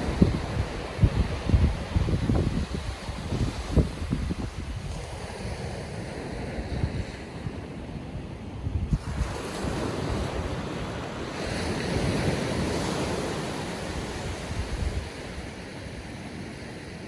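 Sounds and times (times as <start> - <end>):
wind buffeting microphone: 0.0 - 16.6
ocean waves washing on shore: 0.0 - 17.0.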